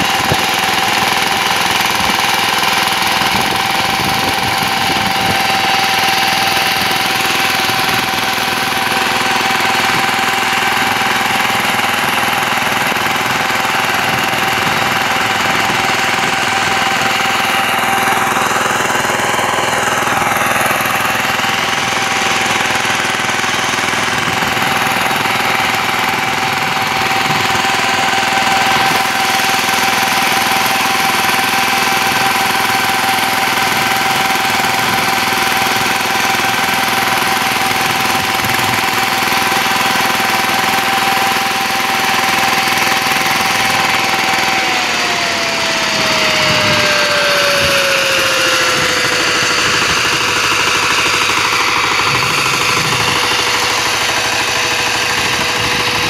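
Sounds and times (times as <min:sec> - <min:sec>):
constant whine: 0:00.0 - 0:56.0
diesel engine running under load: 0:00.0 - 0:56.0
tines churning soil: 0:00.0 - 0:56.0.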